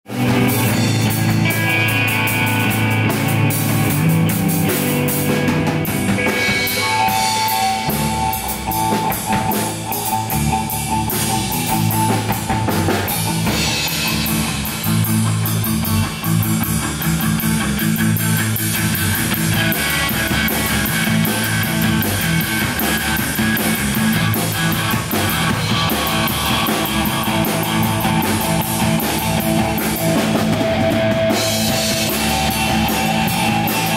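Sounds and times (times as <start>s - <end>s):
bass guitar: 0.0s - 33.9s
electric guitar: 0.0s - 33.9s
drum kit with cymbals: 0.1s - 33.9s.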